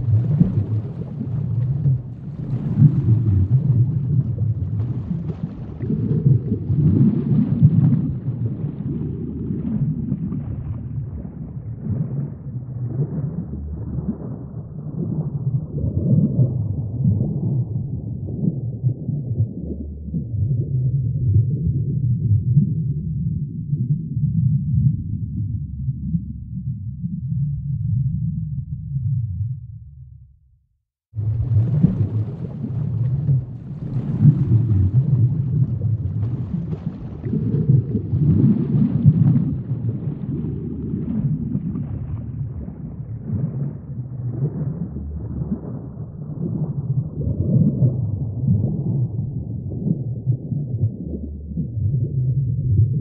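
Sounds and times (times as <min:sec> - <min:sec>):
underwater rumble of moving water: 0:00.0 - 0:30.2, 0:31.0 - 0:53.0.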